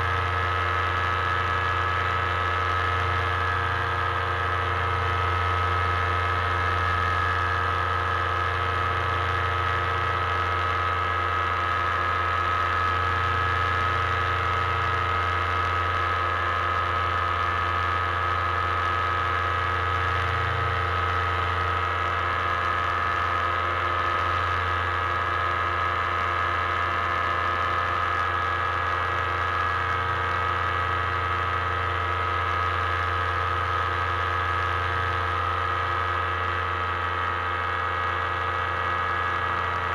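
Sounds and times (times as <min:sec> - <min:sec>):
high steady whine: 0:00.0 - 0:39.9
paramotor engine droning: 0:00.0 - 0:39.9.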